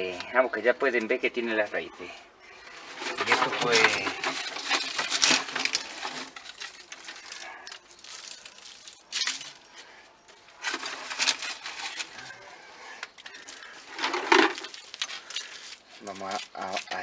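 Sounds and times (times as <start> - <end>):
soil and stones pattering into pot: 2.6 - 17.0.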